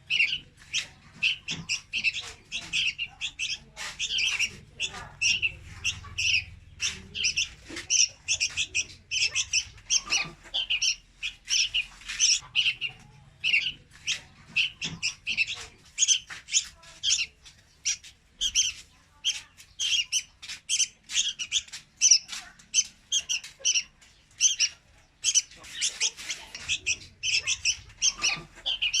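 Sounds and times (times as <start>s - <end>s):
bird high chirps: 0.0s - 29.0s.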